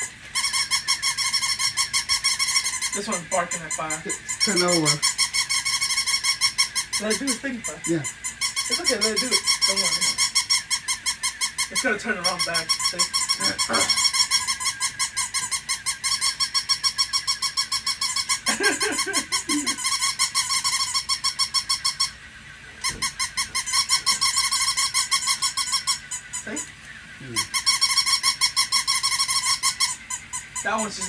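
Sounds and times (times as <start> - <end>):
toy puppy electronic yapping: 0.0 - 22.2, 22.8 - 26.7, 27.3 - 31.0.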